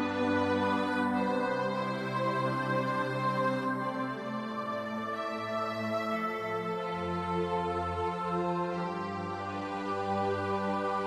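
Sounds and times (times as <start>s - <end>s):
slow sustained chords music: 0.0s - 11.0s.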